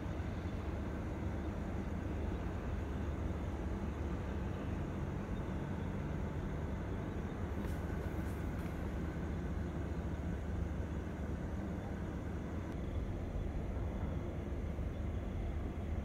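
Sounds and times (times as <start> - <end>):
aircraft taxiing and landing: 0.0 - 16.0.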